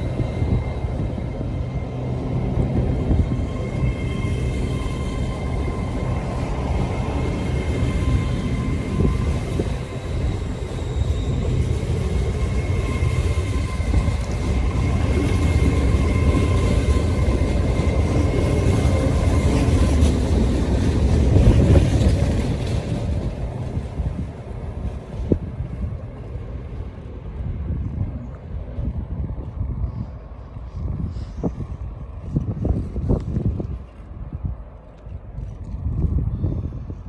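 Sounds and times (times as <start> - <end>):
train rumble: 0.0 - 37.0
train whine: 0.0 - 37.0.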